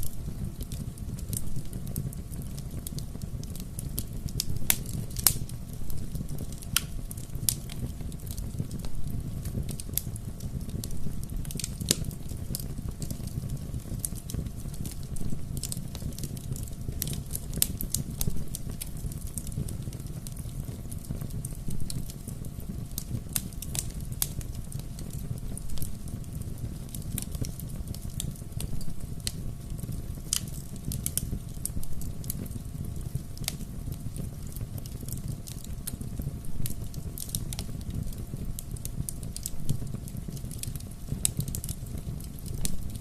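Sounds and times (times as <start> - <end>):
bonfire crackling and popping: 0.0 - 43.0
low rumble of burning: 0.0 - 43.0.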